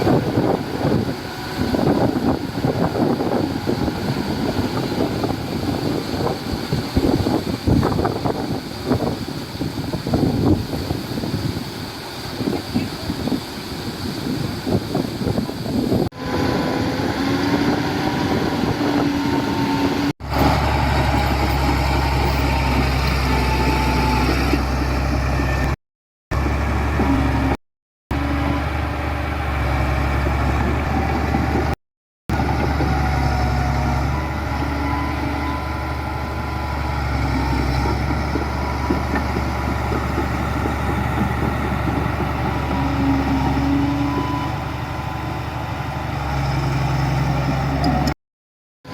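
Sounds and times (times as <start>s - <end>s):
diesel engines rumbling: 0.0s - 48.2s.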